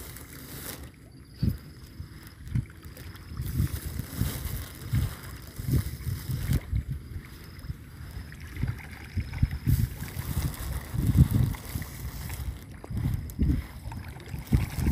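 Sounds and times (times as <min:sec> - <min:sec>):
wind buffeting microphone: 0:01.2 - 0:14.9.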